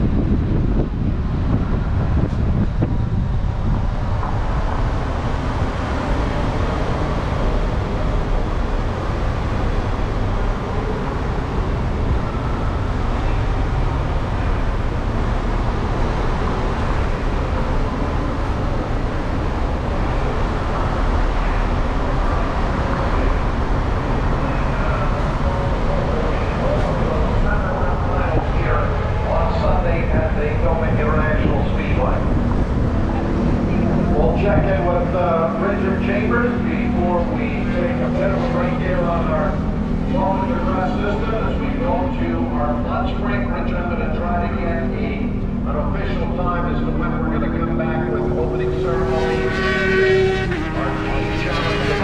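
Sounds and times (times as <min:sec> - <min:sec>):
vehicle road noise rumble: 0:00.0 - 0:52.0.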